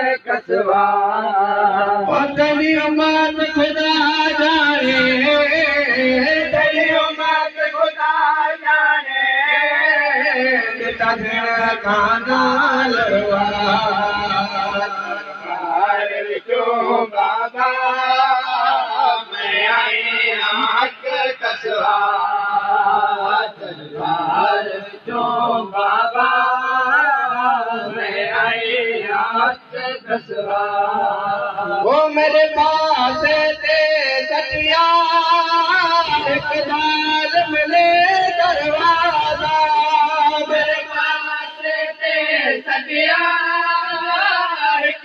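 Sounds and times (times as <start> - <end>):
man chanting a lament: 0.0 - 45.0.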